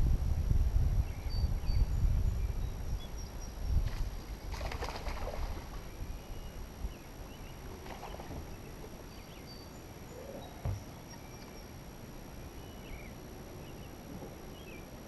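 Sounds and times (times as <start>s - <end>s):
noisy rustle: 0.0s - 15.0s
faint bird chirps: 1.1s - 11.8s, 12.4s - 14.9s.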